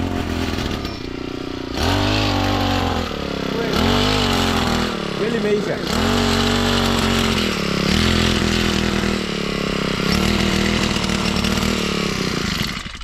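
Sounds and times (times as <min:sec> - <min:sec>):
small engine running fast: 0:00.0 - 0:13.0.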